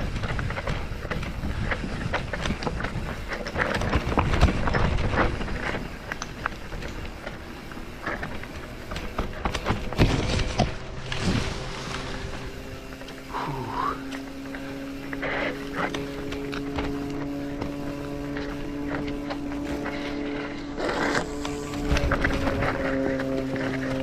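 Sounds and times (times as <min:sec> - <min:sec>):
vehicle rumble on rocky track: 0:00.0 - 0:24.0.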